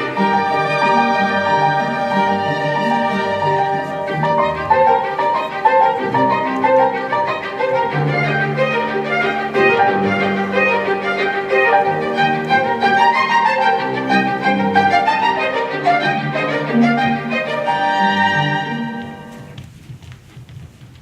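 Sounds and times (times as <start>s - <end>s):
violin melody: 0.0s - 19.9s.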